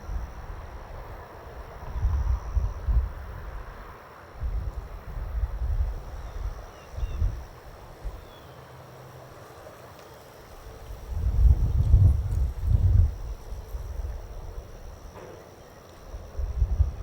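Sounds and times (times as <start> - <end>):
wind buffeting microphone: 0.0 - 8.4, 10.6 - 15.2, 16.0 - 17.0.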